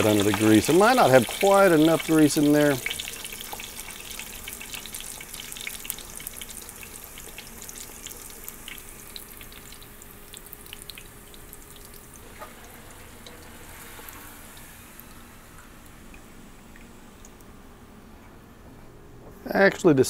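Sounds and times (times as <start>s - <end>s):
dough sizzling in hot oil: 0.0s - 16.6s
oil popping: 0.0s - 17.5s.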